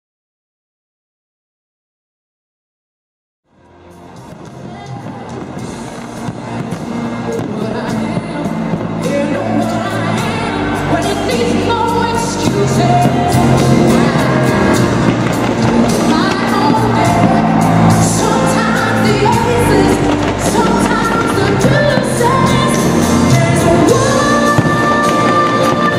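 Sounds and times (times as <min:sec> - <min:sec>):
music with singer over sound system: 0:03.7 - 0:25.9
fireworks bangs and crackles: 0:04.2 - 0:10.3, 0:11.0 - 0:25.9.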